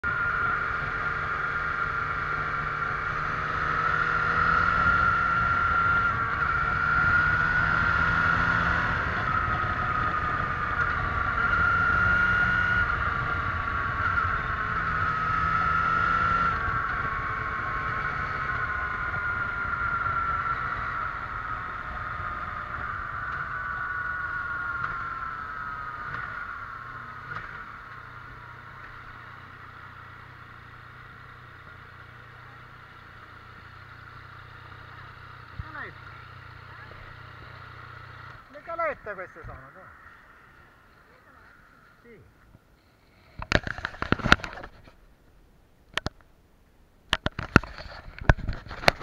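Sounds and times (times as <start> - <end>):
motorcycle engine whining: 0.0 - 45.3, 47.0 - 49.0
wind and road rush: 0.0 - 49.0.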